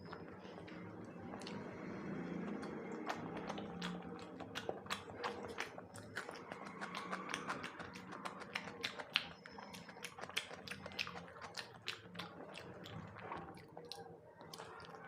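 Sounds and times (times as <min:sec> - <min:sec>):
wet mouth chewing clicks: 0:00.1 - 0:15.0.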